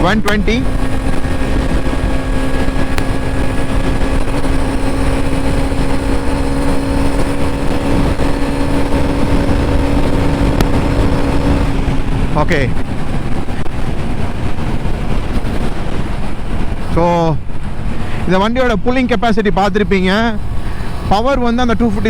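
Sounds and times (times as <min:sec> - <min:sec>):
motorcycle engine high-revving: 0:00.0 - 0:18.3, 0:19.9 - 0:22.0
wind rush over microphone: 0:00.0 - 0:22.0.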